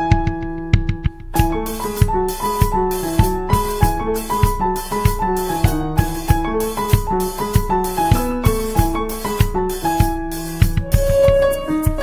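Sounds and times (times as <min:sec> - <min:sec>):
keyboard melody over a beat: 0:00.0 - 0:12.0.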